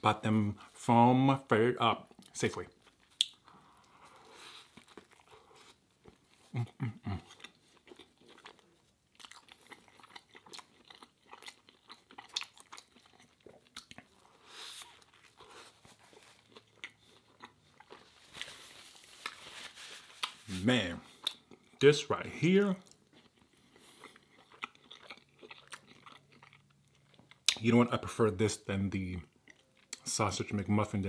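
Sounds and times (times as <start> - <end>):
chewing with crisp crunches: 2.0 - 21.9, 22.6 - 28.0, 29.2 - 30.2.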